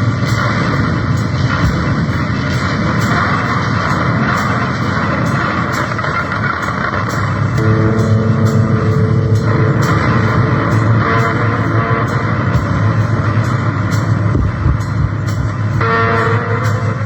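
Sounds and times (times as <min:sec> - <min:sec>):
loud distorted guitar music: 0:00.0 - 0:17.0.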